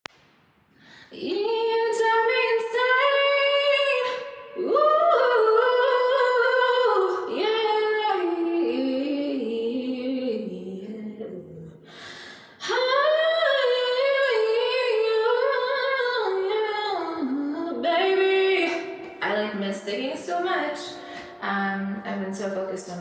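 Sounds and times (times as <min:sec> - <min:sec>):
woman singing a cappella: 0:00.9 - 0:23.0.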